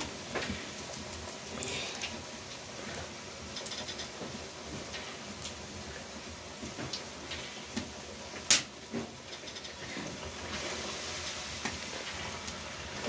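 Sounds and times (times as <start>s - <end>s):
oil crackles: 0.0s - 13.0s
oil frying hiss: 0.0s - 13.0s.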